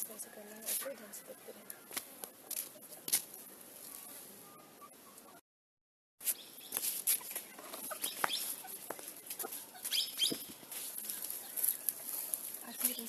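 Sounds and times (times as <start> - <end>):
chickens clucking: 0.0 - 5.4, 6.4 - 13.0.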